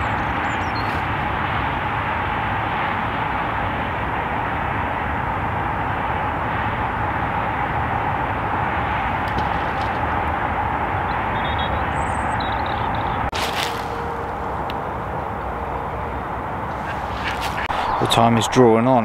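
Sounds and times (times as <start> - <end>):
distant traffic rumble: 0.0 - 19.0.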